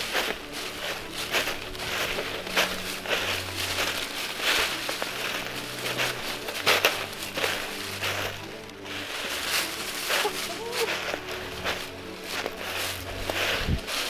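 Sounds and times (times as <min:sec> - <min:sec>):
footsteps crunching dry leaves: 0:00.0 - 0:14.0.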